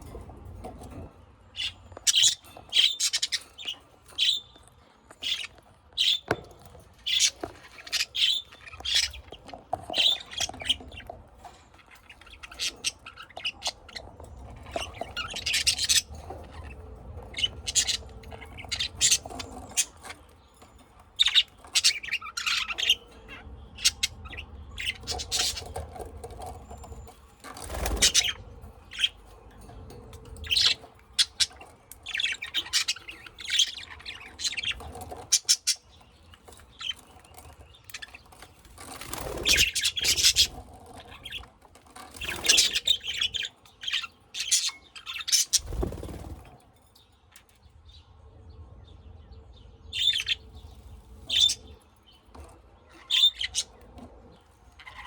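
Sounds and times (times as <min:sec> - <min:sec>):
birds chirping and squawking: 0:00.0 - 0:55.0.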